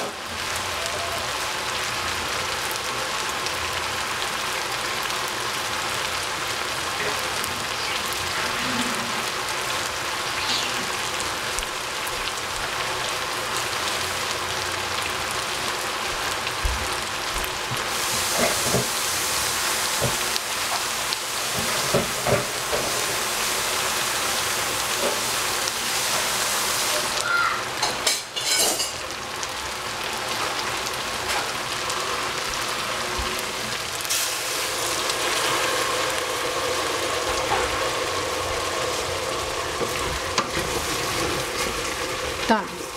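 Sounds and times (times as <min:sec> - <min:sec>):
vegetables sizzling in a pot: 0:00.0 - 0:42.9.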